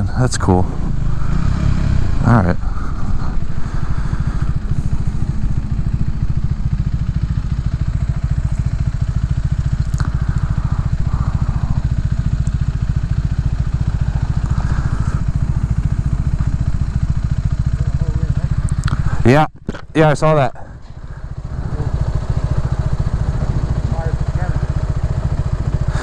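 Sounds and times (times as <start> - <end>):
motorcycle engine running steadily: 0.0 - 26.0.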